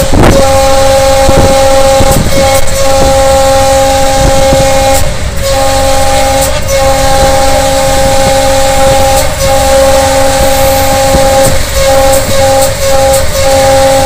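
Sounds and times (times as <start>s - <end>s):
locomotive air horn blasts: 0.0s - 14.0s
low rumble of moving locomotive: 0.0s - 14.0s.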